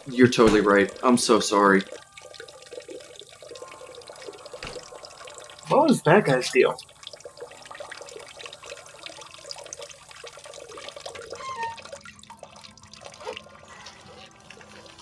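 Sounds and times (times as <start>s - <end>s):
water trickling into urinal: 0.0s - 15.0s.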